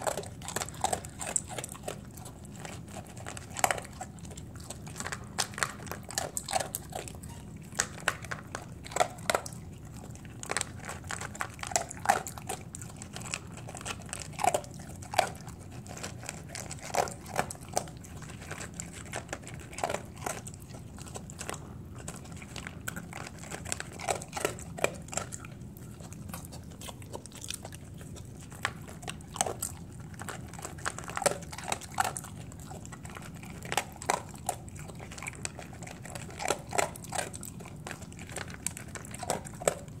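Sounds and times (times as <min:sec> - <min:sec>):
dog crunching dry kibble: 0:00.0 - 0:40.0.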